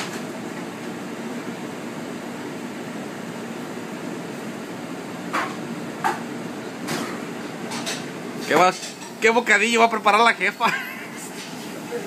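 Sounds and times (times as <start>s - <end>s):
kitchen machinery hum: 0.0s - 12.0s.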